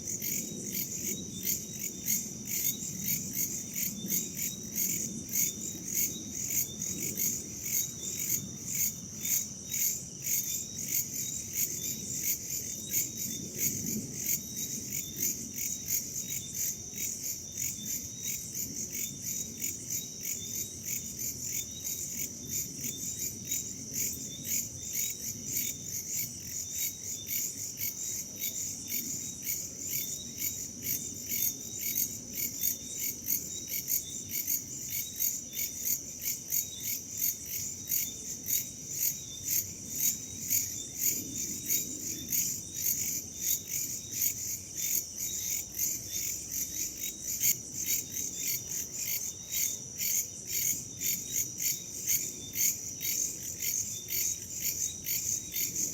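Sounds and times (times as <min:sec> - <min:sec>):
crickets trilling: 0:00.0 - 0:55.9
insects chirping rhythmically: 0:00.1 - 0:55.9.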